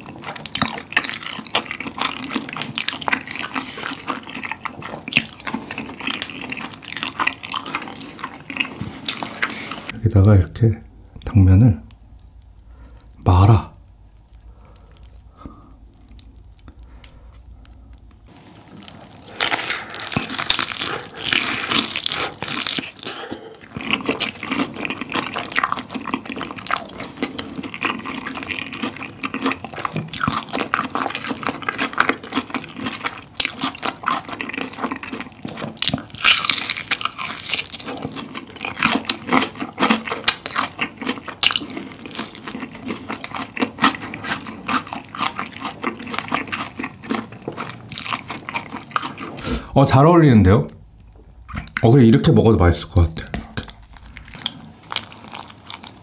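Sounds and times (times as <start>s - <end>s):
wet chewing and slurping: 0.0s - 10.0s, 14.3s - 49.7s, 53.3s - 56.0s.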